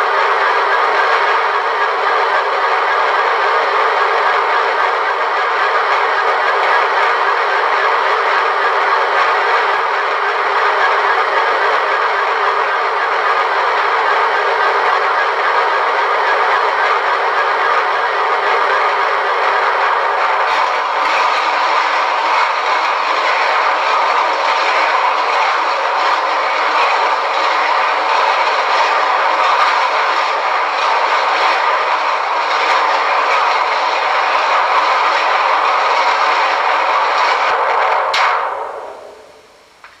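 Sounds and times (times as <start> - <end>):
loud steady sci-fi noise: 0.0 - 40.0.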